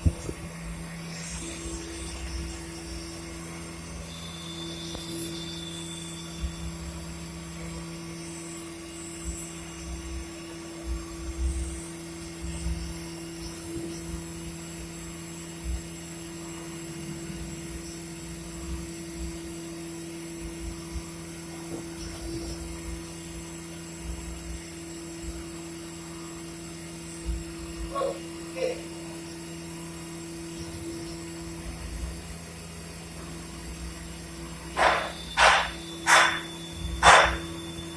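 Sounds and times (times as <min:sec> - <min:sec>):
machining centre humming: 0:00.0 - 0:37.9.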